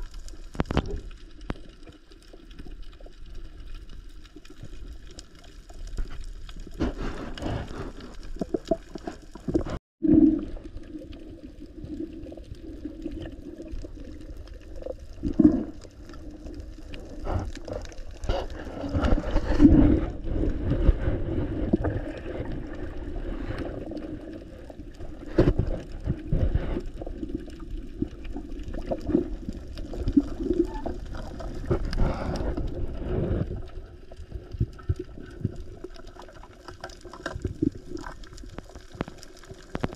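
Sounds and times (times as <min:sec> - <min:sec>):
muffled underwater rumble: 0:00.0 - 0:39.9
water bubbling: 0:00.0 - 0:39.9.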